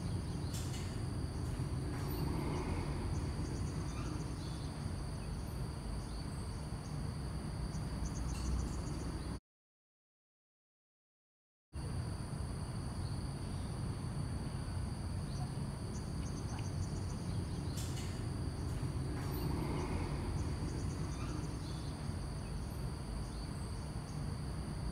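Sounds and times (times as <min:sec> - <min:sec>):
insects chirring: 0:00.0 - 0:09.4, 0:11.8 - 0:24.9
low outdoor rumble: 0:00.0 - 0:09.4, 0:11.8 - 0:24.9.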